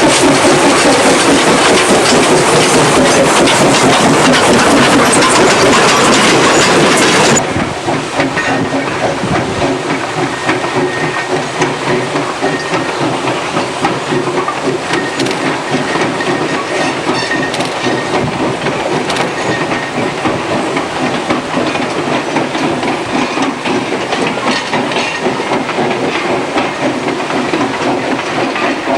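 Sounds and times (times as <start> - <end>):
loud hiss of steam: 0.0 - 28.9
train wheels clattering on rail: 0.0 - 28.9.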